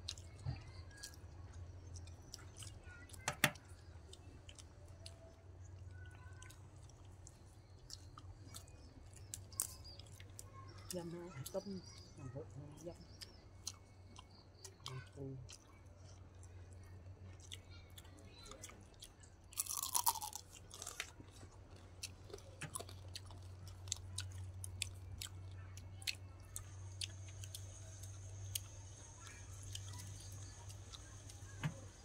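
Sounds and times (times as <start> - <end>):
people chewing crunchy food: 0.0 - 32.0.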